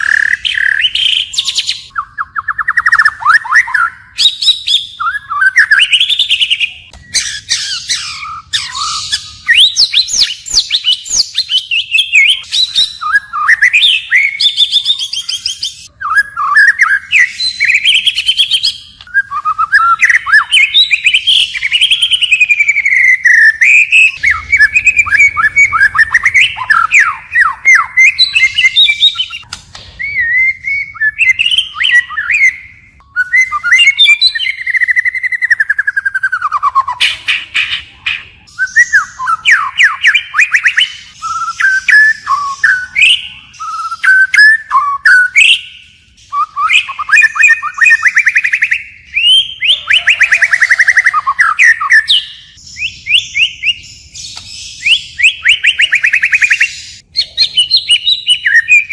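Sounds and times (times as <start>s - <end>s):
songbird singing varied song: 0.0s - 58.9s.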